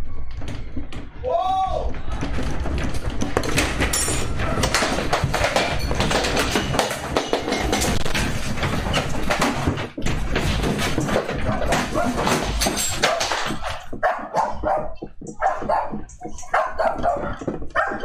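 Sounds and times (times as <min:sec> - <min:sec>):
room rattling and rumbling: 0:00.0 - 0:18.0.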